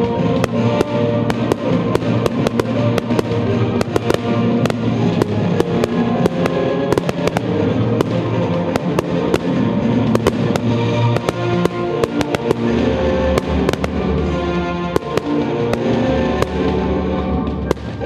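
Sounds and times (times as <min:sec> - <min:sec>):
fireworks bangs and crackles: 0:00.0 - 0:18.0
loud music: 0:00.0 - 0:18.0.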